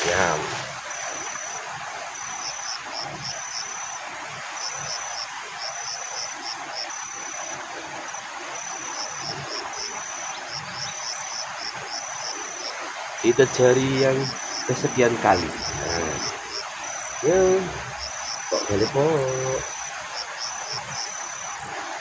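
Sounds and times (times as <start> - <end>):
insect trilling and chirping: 0.0 - 22.0
steady hiss: 0.0 - 22.0.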